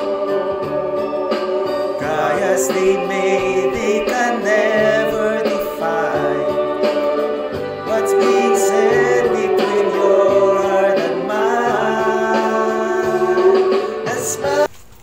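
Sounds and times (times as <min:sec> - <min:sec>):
man singing: 0:00.0 - 0:14.7
musical accompaniment: 0:00.0 - 0:14.7.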